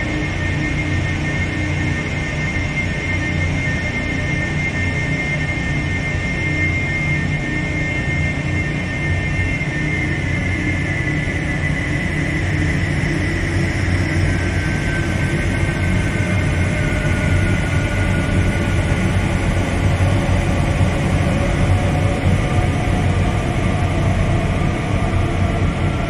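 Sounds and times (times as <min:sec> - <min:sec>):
low rumbling drone music: 0:00.0 - 0:26.0.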